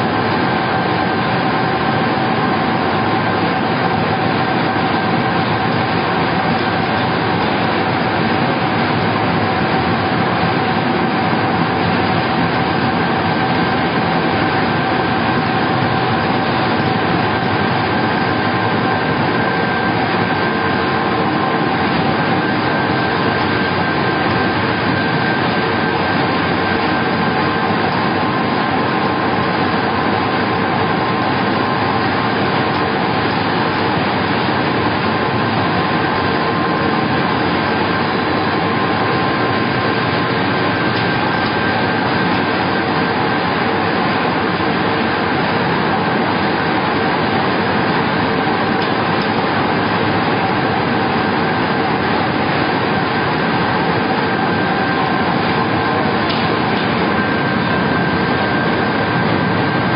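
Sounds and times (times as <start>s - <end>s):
pellet mill machine noise: 0.0s - 59.9s.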